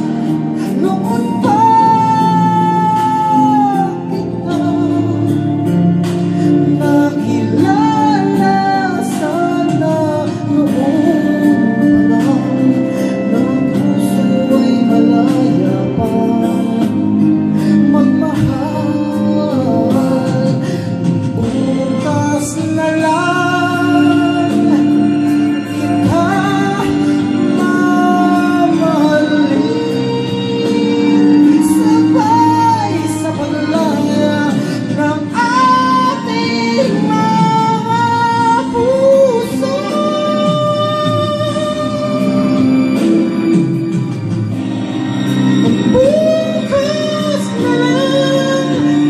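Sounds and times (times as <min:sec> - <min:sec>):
man singing a love ballad: 0:00.0 - 0:43.9, 0:45.6 - 0:49.0
instrumental accompaniment: 0:00.0 - 0:49.0.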